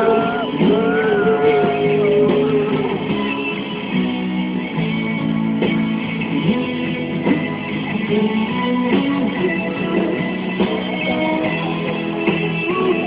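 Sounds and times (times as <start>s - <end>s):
electric guitar chords: 0.0s - 13.0s
live rock band playing: 0.0s - 13.0s.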